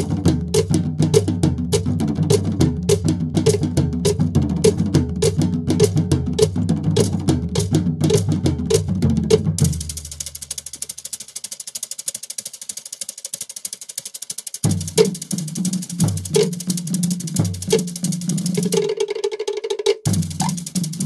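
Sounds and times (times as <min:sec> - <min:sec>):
soundtrack music with drum beat: 0:00.0 - 0:12.2, 0:14.6 - 0:21.0
fast high ticking rhythm: 0:00.0 - 0:21.0.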